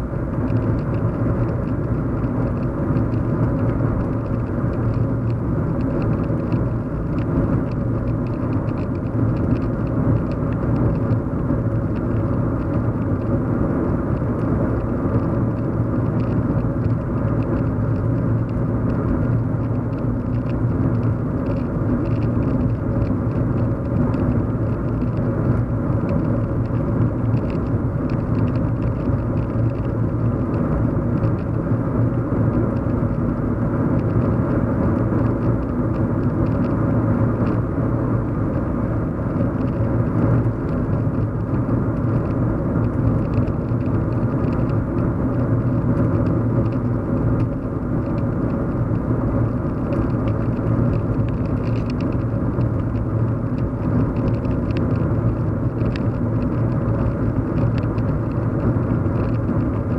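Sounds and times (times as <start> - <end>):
car cabin engine and road noise: 0.0 - 59.9.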